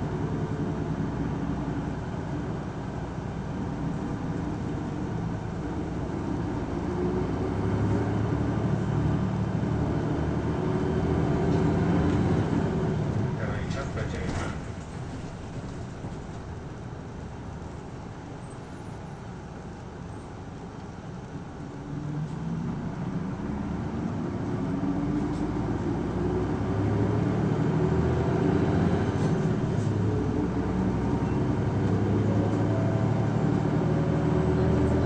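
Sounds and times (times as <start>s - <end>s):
bus diesel engine accelerating: 0.0s - 35.0s.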